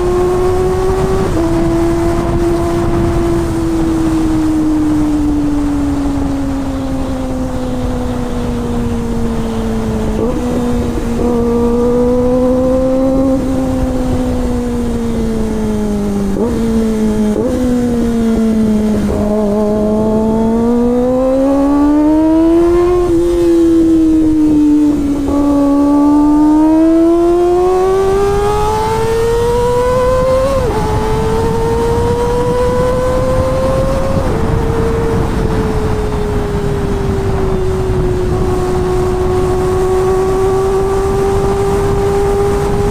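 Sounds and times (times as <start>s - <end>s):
motorcycle engine at high revs: 0.0s - 42.9s.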